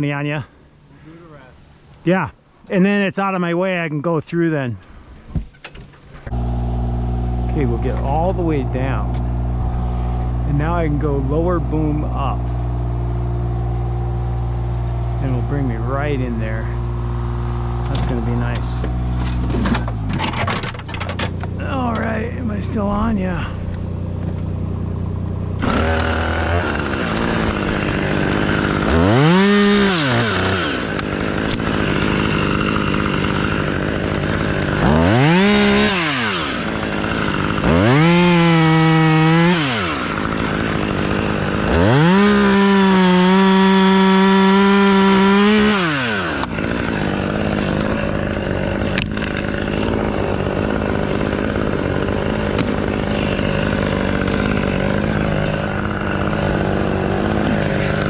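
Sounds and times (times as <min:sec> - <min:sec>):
chainsaw revving: 0:06.3 - 0:58.0.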